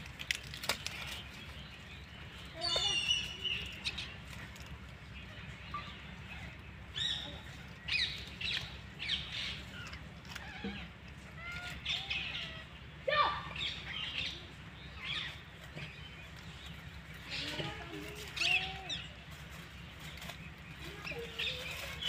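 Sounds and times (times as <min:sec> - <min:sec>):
high chirping calls: 0:01.0 - 0:22.0.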